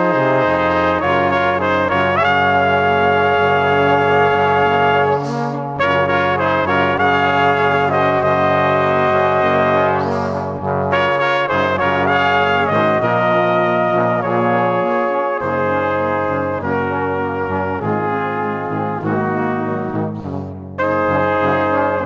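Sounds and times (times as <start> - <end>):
brass background music: 0.0 - 22.0
trumpet and trombone sustained notes: 0.0 - 22.0.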